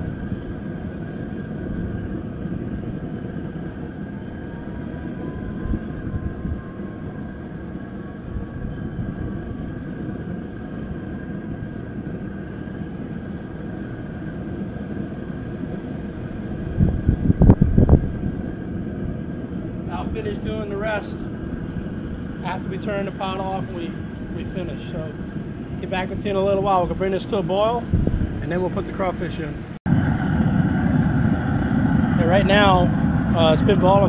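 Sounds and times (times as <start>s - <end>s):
gas burner low rumble: 0.0s - 34.0s.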